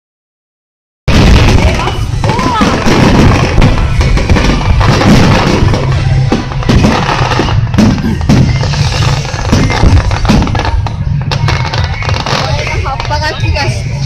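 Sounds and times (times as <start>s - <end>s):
fireworks bursting: 1.1s - 14.0s.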